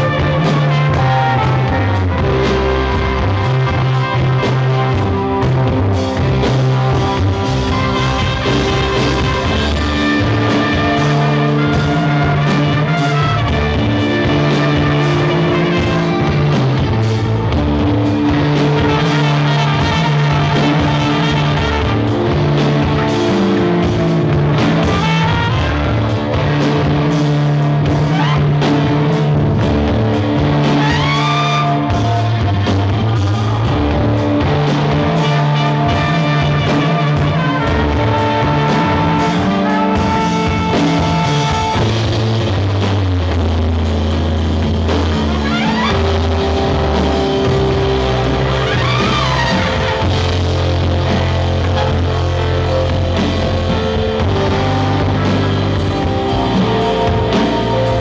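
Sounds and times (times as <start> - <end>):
live rock band playing: 0.0 - 58.0
low bass notes: 0.0 - 58.0
trumpet: 0.0 - 58.0.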